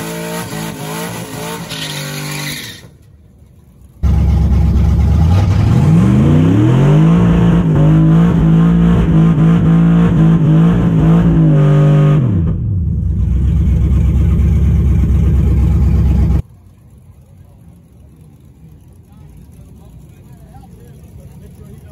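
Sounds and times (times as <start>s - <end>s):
drag race car engine: 0.0s - 21.9s.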